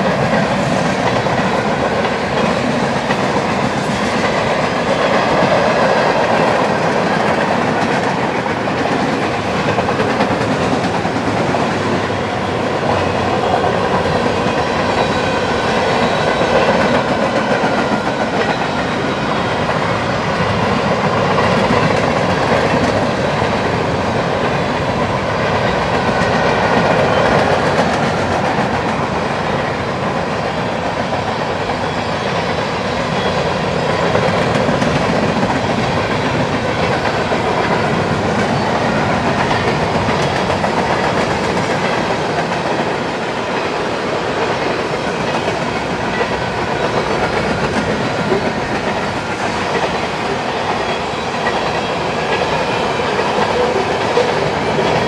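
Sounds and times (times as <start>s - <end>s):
freight train wheels rumbling on rail: 0.0s - 55.0s.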